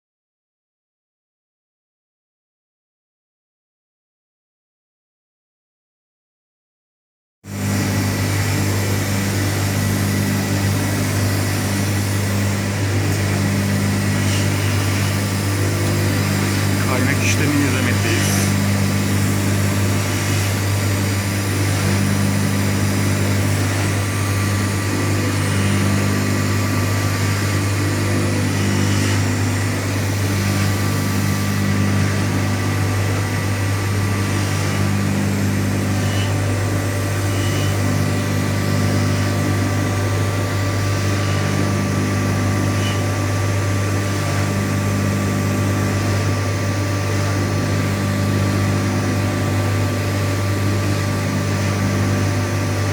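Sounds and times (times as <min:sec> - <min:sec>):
workshop machine humming: 0:08.0 - 0:52.9.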